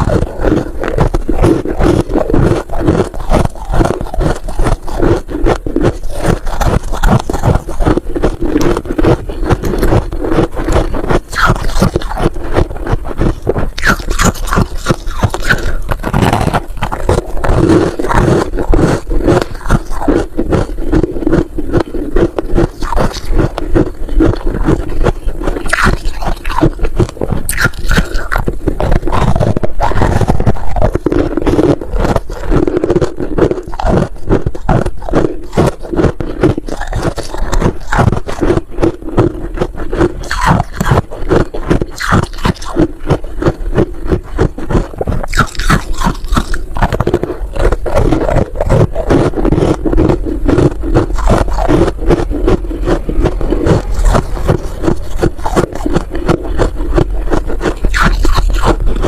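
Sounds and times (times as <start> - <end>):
chewing crunchy frost: 0.0 - 59.0.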